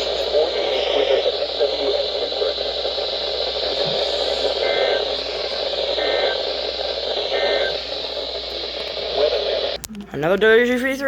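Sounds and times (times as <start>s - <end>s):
two-tone data bursts: 0.0s - 9.9s
static hiss: 0.0s - 11.0s.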